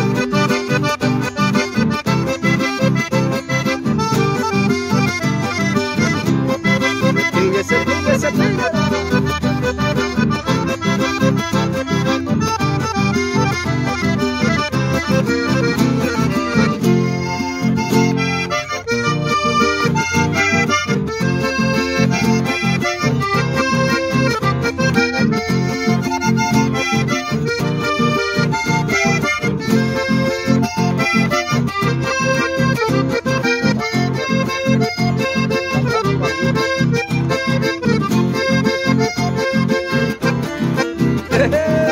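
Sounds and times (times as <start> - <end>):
button accordion playing: 0.0 - 41.9.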